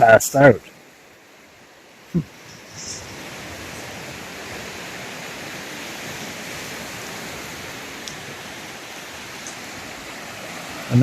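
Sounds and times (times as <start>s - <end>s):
waves washing onto shore: 0.0s - 11.0s.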